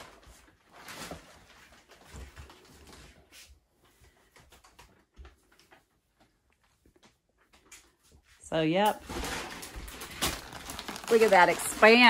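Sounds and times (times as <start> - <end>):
plastic wrap rustling: 0.0 - 6.4, 8.6 - 12.0.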